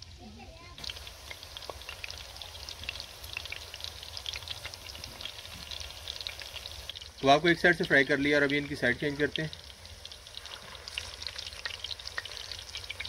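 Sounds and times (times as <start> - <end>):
kebabs sizzling in hot oil: 0.0 - 13.0.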